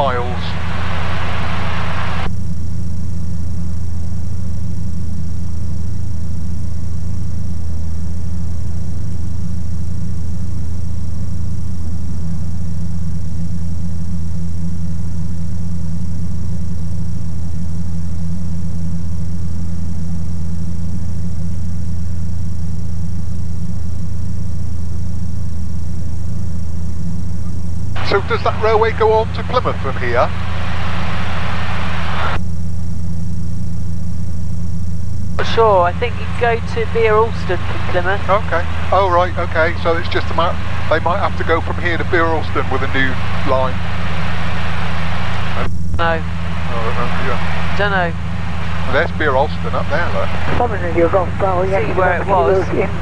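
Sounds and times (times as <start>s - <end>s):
light aircraft engine droning: 0.0s - 33.5s, 34.7s - 53.0s.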